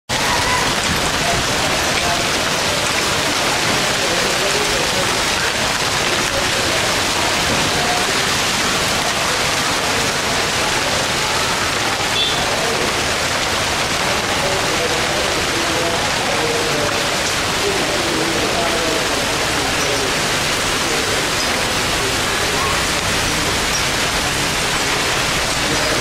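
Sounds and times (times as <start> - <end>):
heavy rain downpour: 0.1 - 26.0.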